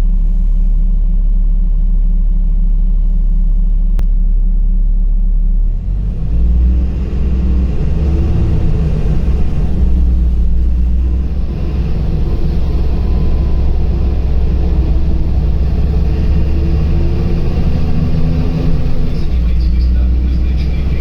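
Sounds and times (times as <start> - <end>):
bus engine and road rumble: 0.0 - 21.0
faint shifting hum: 0.0 - 21.0.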